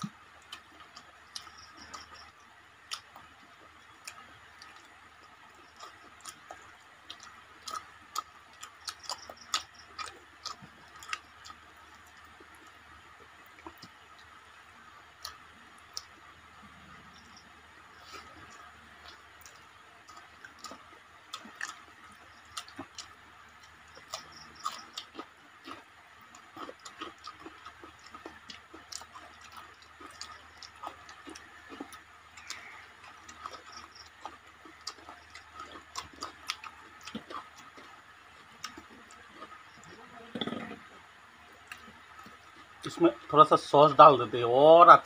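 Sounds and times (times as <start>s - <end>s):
people chewing food: 0.0s - 45.0s.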